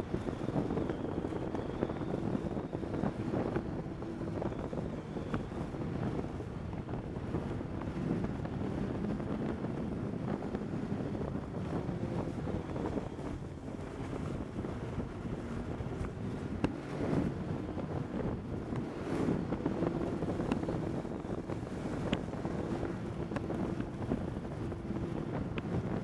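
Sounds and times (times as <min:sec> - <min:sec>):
snowmobile engine running: 0:00.0 - 0:26.0
wind noise on microphone: 0:00.0 - 0:26.0.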